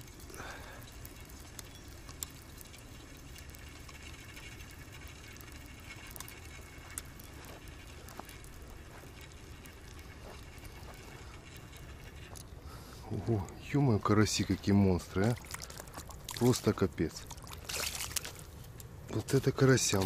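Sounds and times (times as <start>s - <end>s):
steady low hum: 0.0s - 20.0s
water dripping and splashing: 0.0s - 20.0s.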